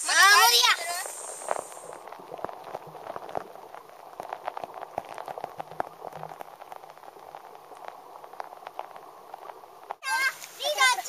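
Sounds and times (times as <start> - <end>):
water bubbling: 0.0 - 10.6
underwater crackle of clicks: 0.4 - 10.6.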